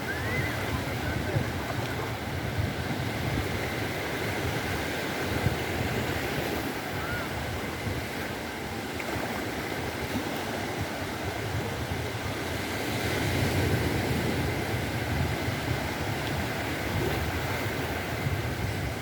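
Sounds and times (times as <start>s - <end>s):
sea waves washing on beach: 0.0s - 19.0s.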